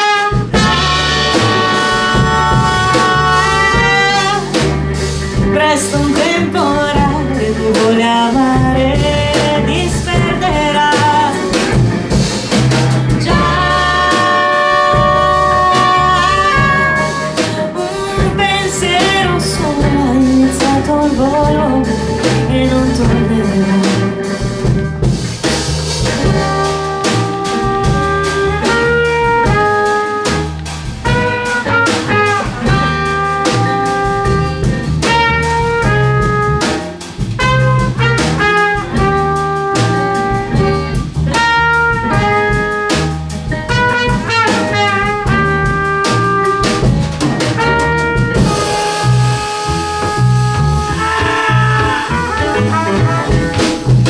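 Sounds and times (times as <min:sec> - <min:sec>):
trumpet: 0:00.0 - 0:08.0, 0:08.8 - 0:25.2, 0:26.0 - 0:54.0
drum kit: 0:00.0 - 0:54.0
upright double bass: 0:00.0 - 0:54.0.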